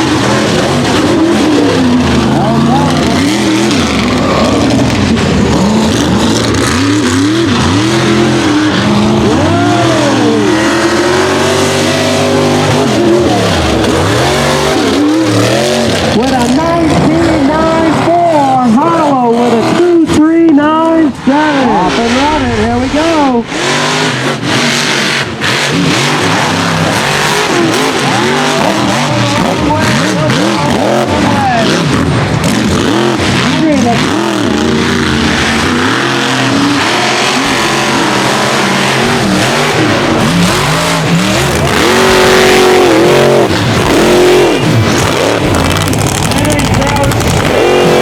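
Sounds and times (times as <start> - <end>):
loud dense noise: 0.0 - 48.0
truck engine revving: 0.0 - 48.0.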